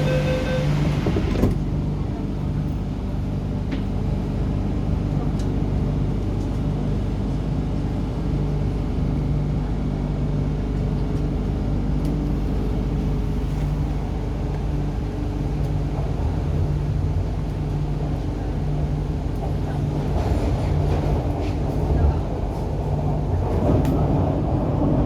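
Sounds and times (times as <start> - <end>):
train rumble inside car: 0.0 - 25.0.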